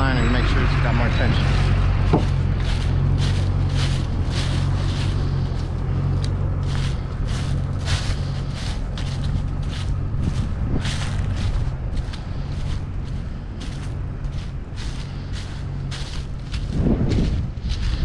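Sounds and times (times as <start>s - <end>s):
truck engine idling: 0.0s - 18.0s
footsteps crunching through dry leaves: 0.5s - 18.0s.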